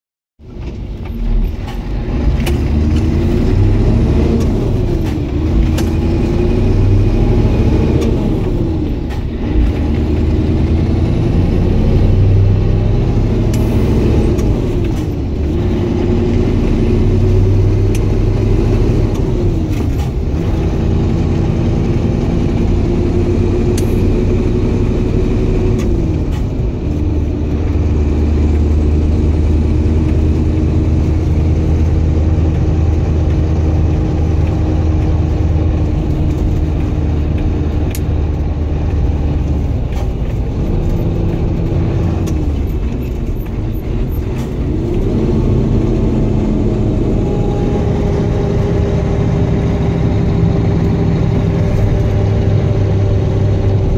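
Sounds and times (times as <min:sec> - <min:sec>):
truck diesel engine: 0:00.4 - 0:53.9.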